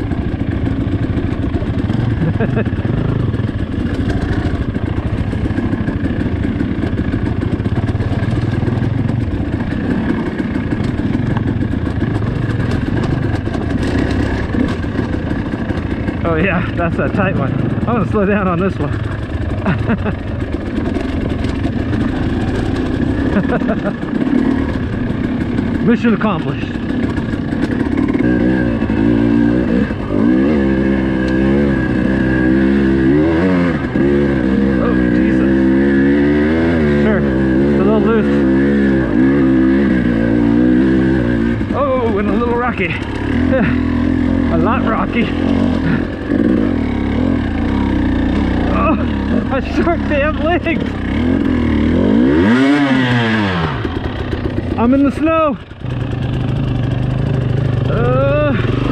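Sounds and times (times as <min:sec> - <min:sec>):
dirt bike engine running: 0:00.0 - 0:58.9.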